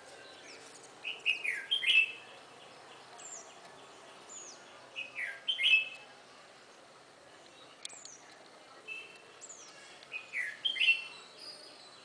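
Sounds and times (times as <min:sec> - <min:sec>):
bird warbling song: 0:00.1 - 0:06.0, 0:07.5 - 0:12.0.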